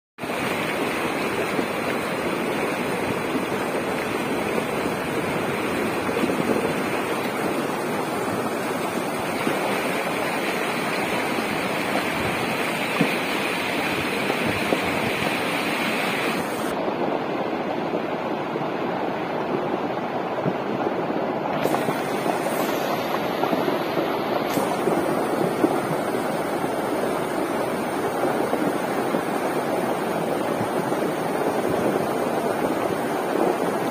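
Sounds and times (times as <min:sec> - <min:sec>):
river rushing over stones: 0:00.2 - 0:33.9.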